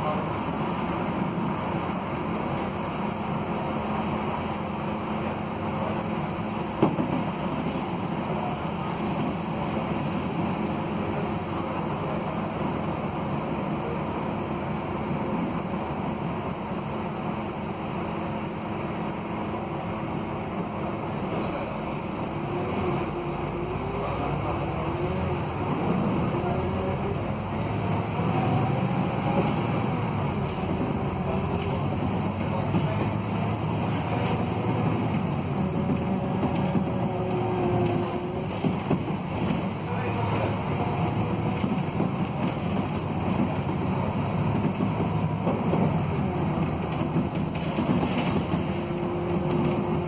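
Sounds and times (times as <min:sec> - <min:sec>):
bus diesel engine rumbling: 0:00.0 - 0:50.0.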